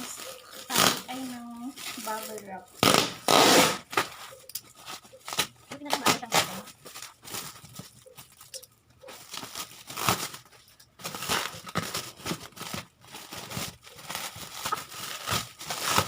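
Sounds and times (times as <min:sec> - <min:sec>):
bubble wrap crinkling: 0:00.0 - 0:16.0.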